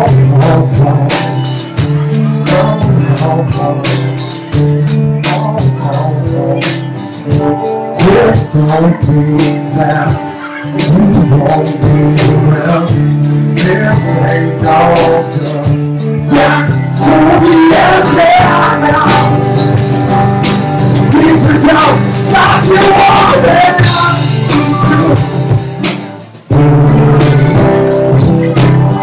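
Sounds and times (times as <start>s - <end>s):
drum kit and cymbals: 0.0s - 29.0s
man singing: 0.0s - 29.0s
strummed guitars: 0.0s - 29.0s.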